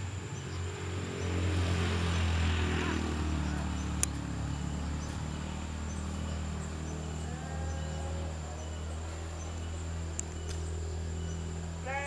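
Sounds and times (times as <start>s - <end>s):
low distant engine hum: 0.0s - 12.0s.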